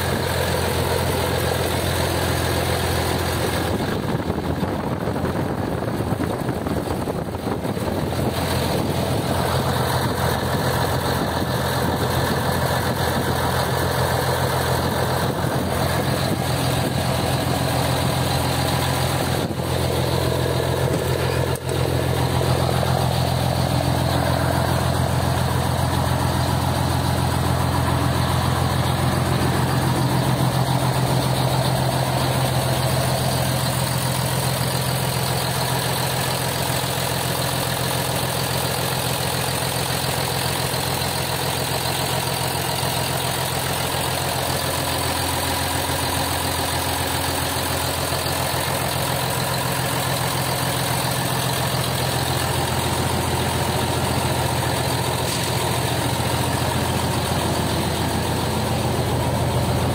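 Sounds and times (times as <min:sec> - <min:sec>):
diesel coach engine idling: 0:00.0 - 0:59.9.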